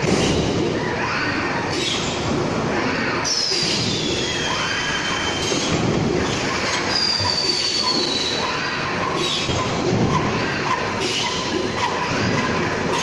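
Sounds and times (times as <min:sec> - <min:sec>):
machinery clatter: 0:00.0 - 0:13.0.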